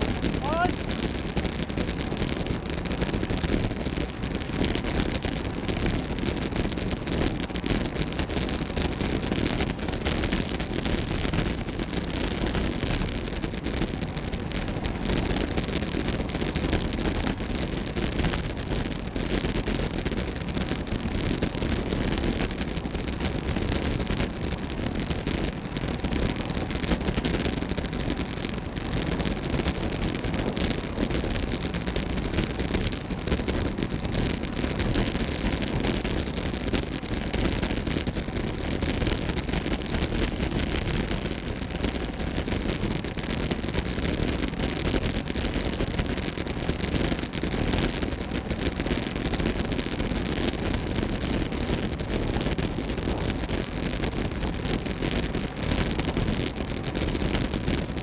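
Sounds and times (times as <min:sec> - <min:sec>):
tyre road noise: 0:00.0 - 0:58.0
wind buffeting microphone: 0:00.0 - 0:58.0.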